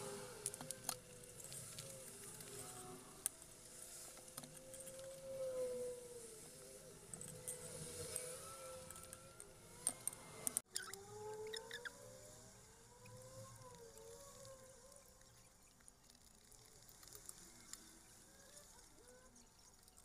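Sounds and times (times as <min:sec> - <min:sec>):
faint gliding tones: 0:00.0 - 0:20.0.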